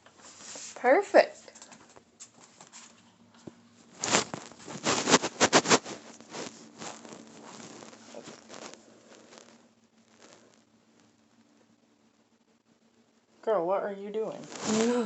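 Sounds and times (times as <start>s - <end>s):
crackly scraping and rustling: 0.0s - 11.8s, 14.3s - 15.0s.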